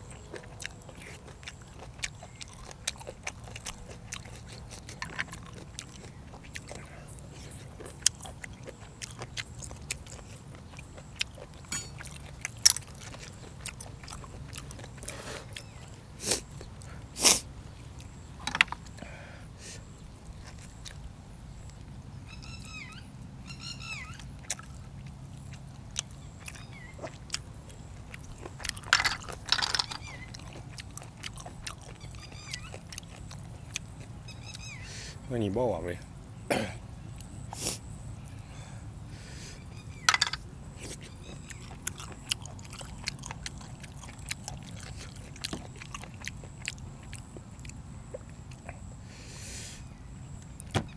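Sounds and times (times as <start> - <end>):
chewing food: 0.0 - 22.1, 23.8 - 34.8, 39.7 - 49.1.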